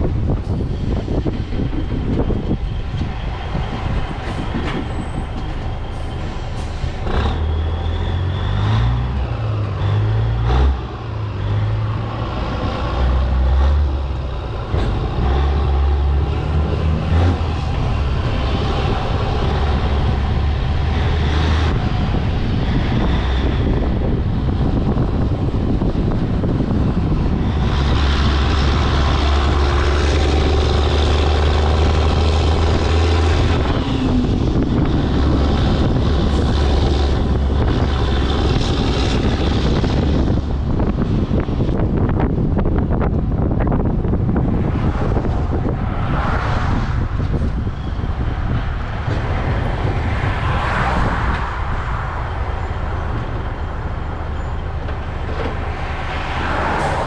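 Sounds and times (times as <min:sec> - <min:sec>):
diesel truck engine: 0:00.0 - 0:57.0.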